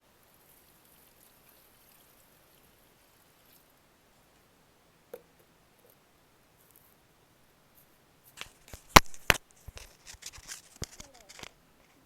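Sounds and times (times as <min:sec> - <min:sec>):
faint hiss with crackles: 0:00.0 - 0:12.0.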